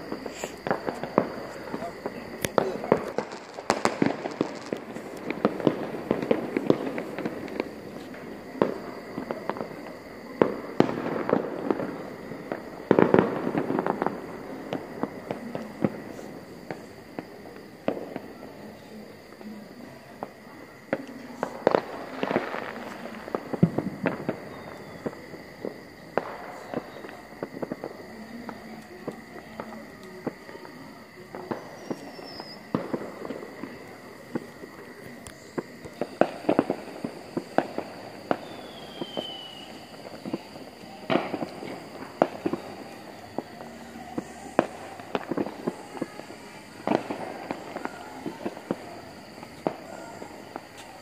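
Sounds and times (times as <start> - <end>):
fireworks cracking and banging: 0.0 - 51.0.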